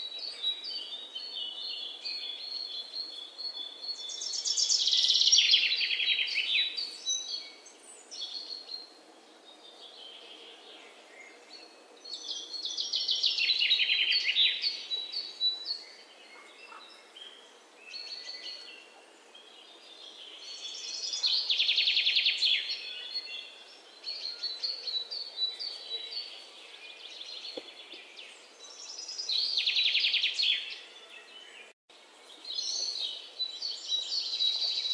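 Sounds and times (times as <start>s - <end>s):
soft bird chirps: 0.0s - 34.9s.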